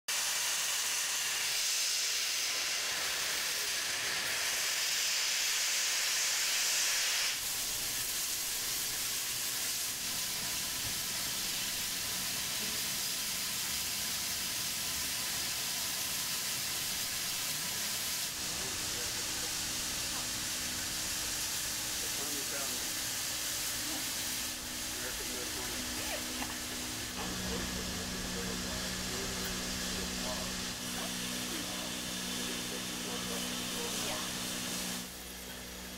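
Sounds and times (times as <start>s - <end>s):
steam hissing: 0.1s - 35.9s.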